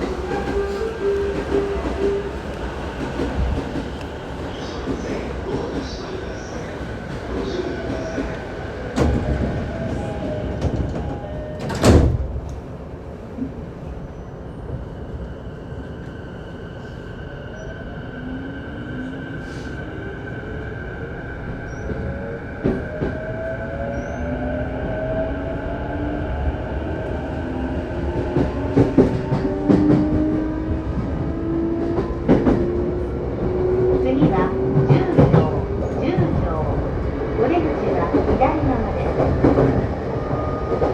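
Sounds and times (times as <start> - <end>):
train wheels rumbling on rail: 0.0 - 16.1, 21.1 - 40.9.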